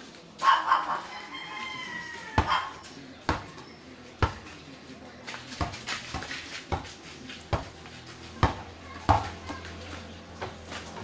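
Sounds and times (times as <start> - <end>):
basketball bouncing on dirt: 2.2 - 11.0.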